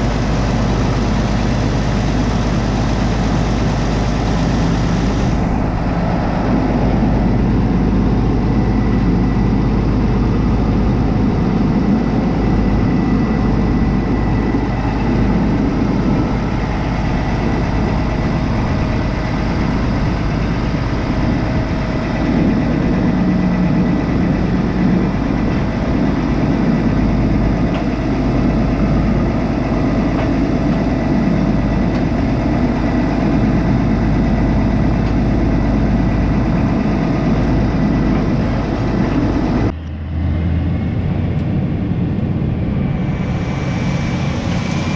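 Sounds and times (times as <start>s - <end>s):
tractor diesel engine idling: 0.0s - 44.9s.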